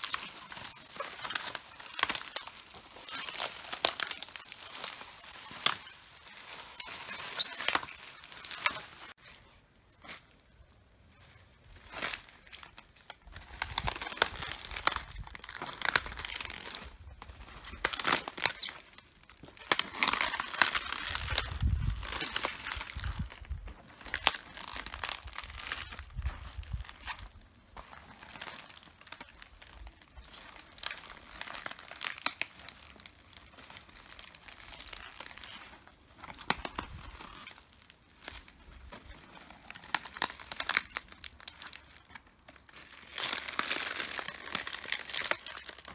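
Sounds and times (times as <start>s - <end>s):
cabbage leaves crunching underfoot: 0.0s - 45.9s.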